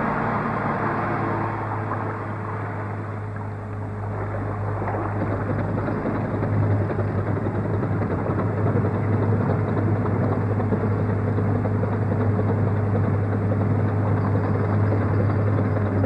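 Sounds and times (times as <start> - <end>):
muffled engine drone: 0.0 - 16.0.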